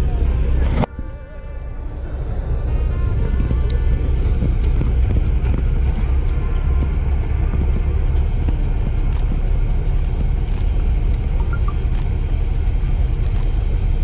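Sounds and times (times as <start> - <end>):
wind buffeting microphone: 2.0 - 14.0.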